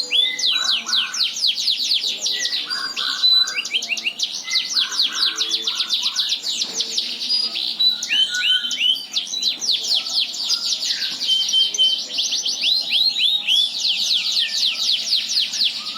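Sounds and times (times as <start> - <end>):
canary singing: 0.0 - 15.9.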